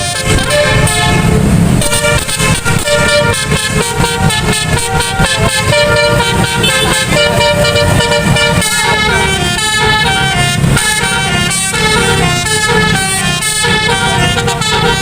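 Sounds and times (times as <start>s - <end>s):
bus musical horn tune: 0.0s - 15.0s.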